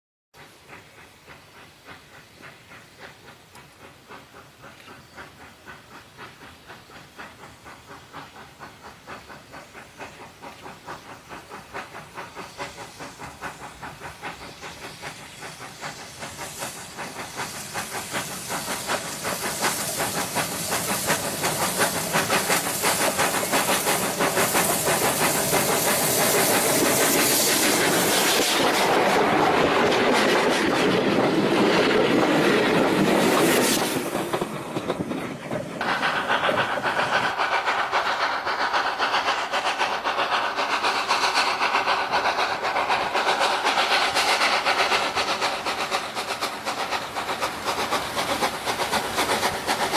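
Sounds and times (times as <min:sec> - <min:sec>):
steam hiss: 0:00.4 - 0:49.9
steam locomotive chuffing: 0:00.4 - 0:49.9.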